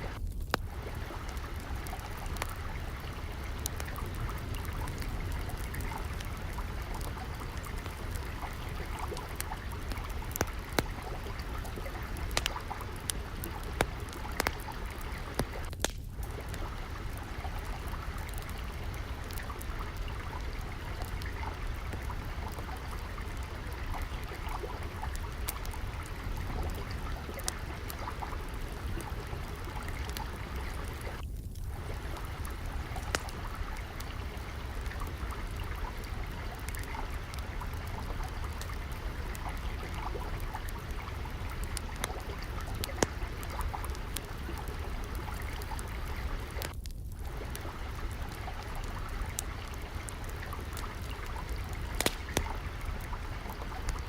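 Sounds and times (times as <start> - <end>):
flowing water: 0.0 - 54.0
wood fire crackling: 0.0 - 54.0.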